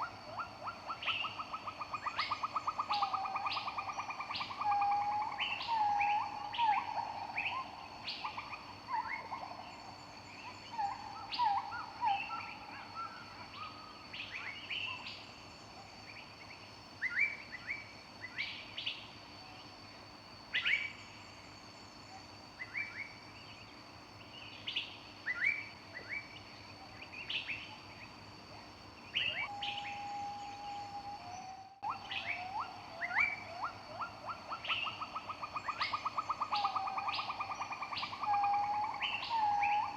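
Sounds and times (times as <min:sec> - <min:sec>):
songbirds singing: 0:00.0 - 0:19.9, 0:20.5 - 0:39.9.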